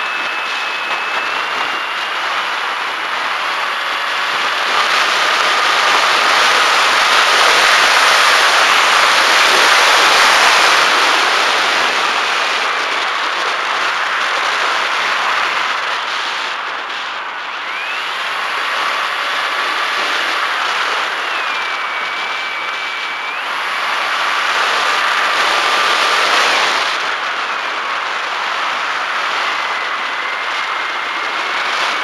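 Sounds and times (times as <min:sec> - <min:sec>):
electric motor and propeller whine: 0:00.0 - 0:32.0
wind rushing over camera: 0:00.0 - 0:32.0.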